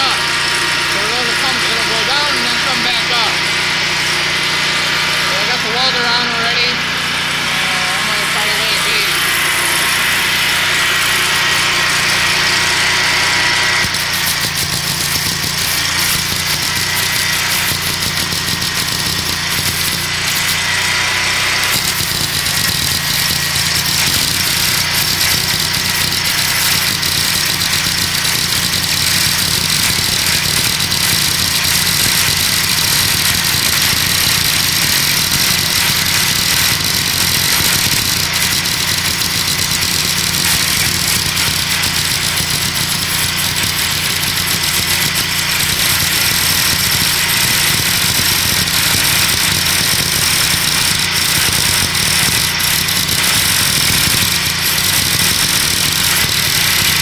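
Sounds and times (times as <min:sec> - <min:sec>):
generator engine running: 0:00.0 - 0:57.0
welder arc crackling hiss: 0:00.0 - 0:57.0.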